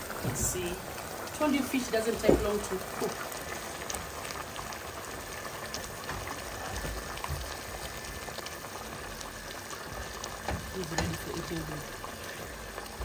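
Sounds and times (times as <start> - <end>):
stew bubbling at a simmer: 0.0 - 13.0.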